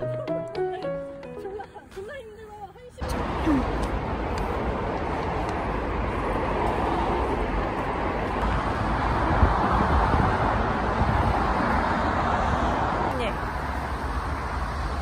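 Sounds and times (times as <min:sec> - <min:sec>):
road traffic rushing: 0:00.3 - 0:15.0.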